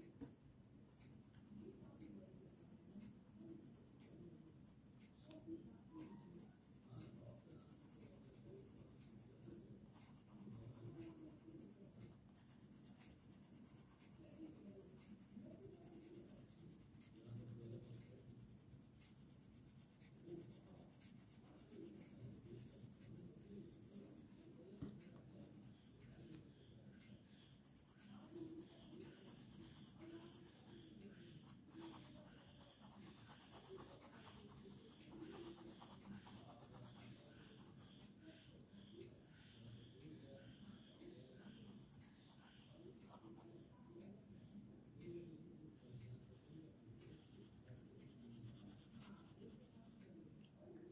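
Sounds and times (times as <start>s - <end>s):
pencil scratching on paper: 0.9s - 43.7s, 45.8s - 50.1s.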